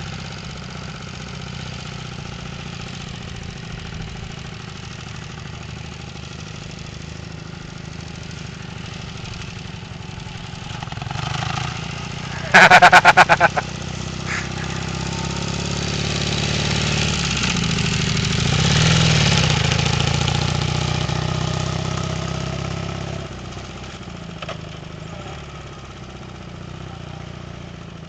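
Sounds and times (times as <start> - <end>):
motorcycle engine passing by: 1.2 - 23.8.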